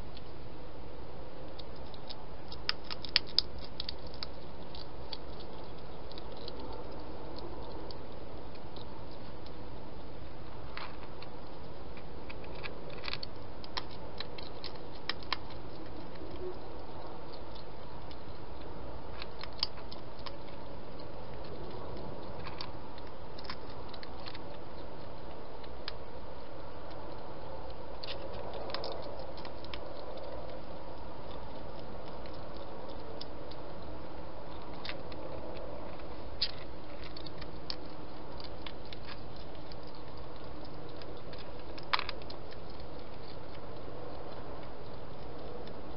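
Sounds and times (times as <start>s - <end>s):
hedgehog chewing clicks: 1.4s - 45.9s.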